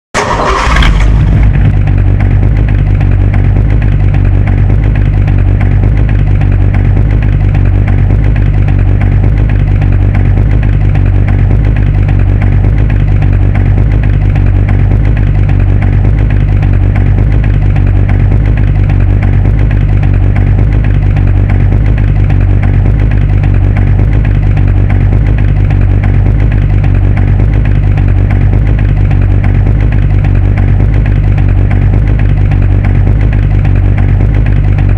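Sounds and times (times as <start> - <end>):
car engine starting: 0.2 - 34.9
engine idling with deep rumble: 0.2 - 34.9.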